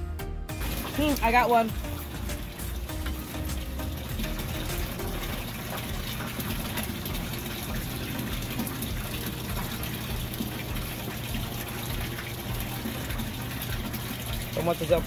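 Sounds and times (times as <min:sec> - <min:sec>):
water splashing into tank: 0:00.6 - 0:15.0.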